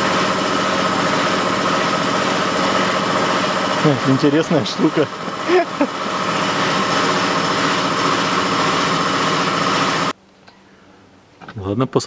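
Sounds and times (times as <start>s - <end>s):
compressed air gun droning: 0.0s - 10.2s.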